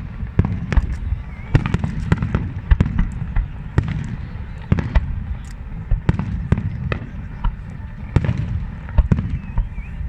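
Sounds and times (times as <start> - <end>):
fireworks banging and crackling: 0.0 - 10.0.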